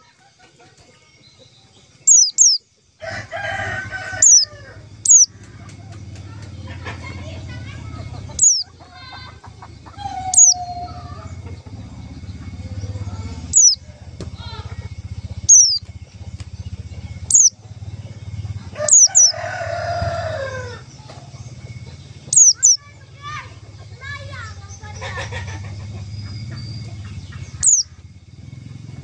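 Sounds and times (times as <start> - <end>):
steady low hum: 1.2 - 29.0
bird giving high downward calls: 2.0 - 28.1
rooster crowing: 2.1 - 28.7.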